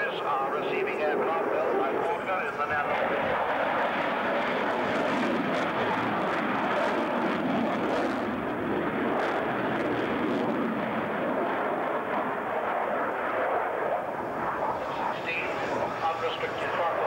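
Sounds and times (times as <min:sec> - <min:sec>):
fighter jet engine rush: 0:00.0 - 0:17.0.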